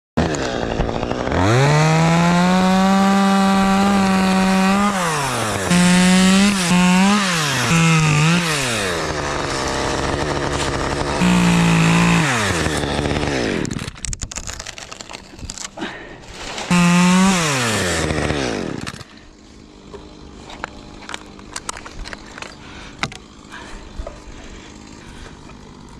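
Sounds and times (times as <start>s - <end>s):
chainsaw revving and cutting wood: 0.2s - 14.9s, 15.8s - 25.9s.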